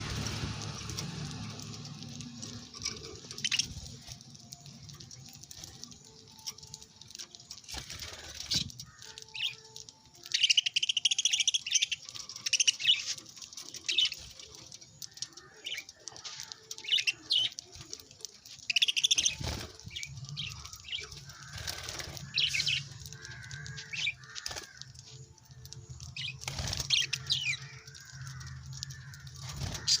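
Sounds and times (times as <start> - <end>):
wing flutters: 0.0 - 9.9, 11.6 - 25.0, 26.1 - 30.0
parrots chirping: 1.1 - 7.5, 8.1 - 25.4, 26.0 - 30.0.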